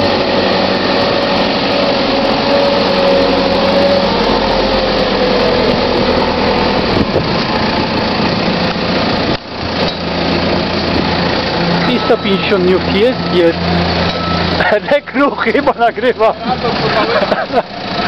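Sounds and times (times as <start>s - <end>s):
diesel engine hum: 0.0s - 18.0s.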